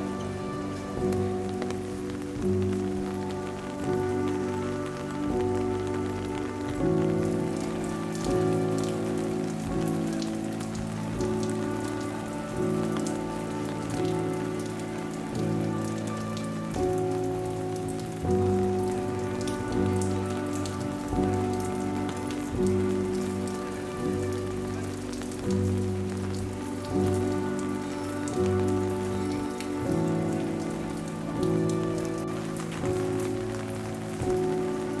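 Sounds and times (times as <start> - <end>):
rain falling: 0.0 - 35.0
slow music with sustained chords: 0.0 - 35.0
water drips: 0.0 - 35.0.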